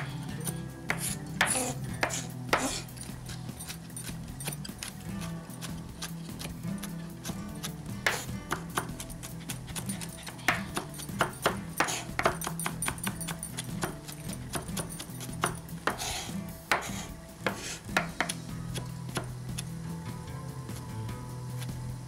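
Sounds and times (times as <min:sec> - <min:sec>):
knife chopping on wooden board: 0:00.0 - 0:02.9, 0:03.6 - 0:19.7
quiet background music: 0:00.0 - 0:22.0.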